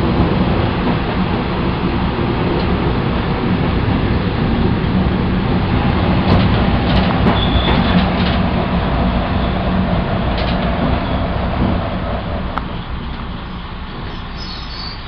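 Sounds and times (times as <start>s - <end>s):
wheel and rail noise: 0.0s - 15.0s.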